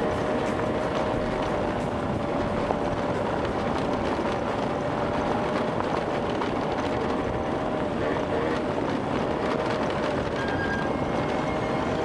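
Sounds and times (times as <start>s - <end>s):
road and wind noise: 0.0s - 12.0s
scooter engine droning: 0.0s - 12.0s.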